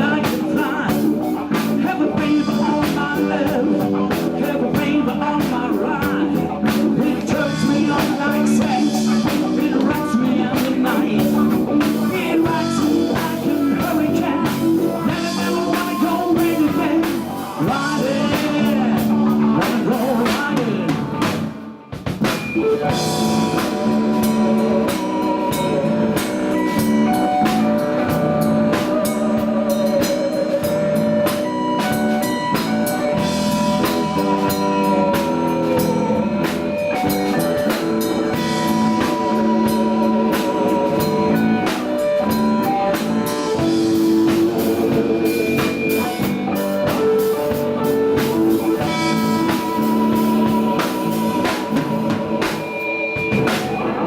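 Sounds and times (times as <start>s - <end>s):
blues-rock band playing: 0.0s - 54.0s
drum kit: 0.0s - 54.0s
electric guitar lines: 0.0s - 54.0s.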